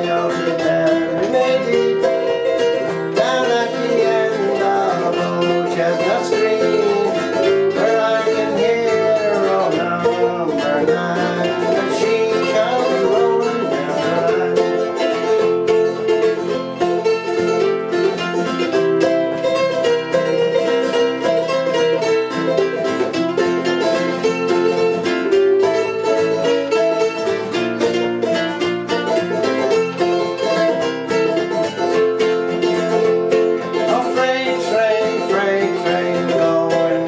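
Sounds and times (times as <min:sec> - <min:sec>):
acoustic plucked-string band: 0:00.0 - 0:37.0.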